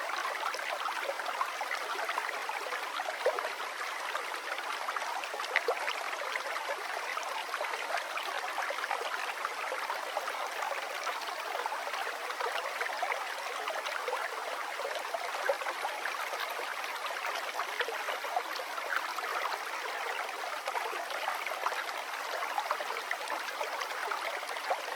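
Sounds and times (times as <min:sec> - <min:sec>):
river water flowing: 0:00.0 - 0:24.9.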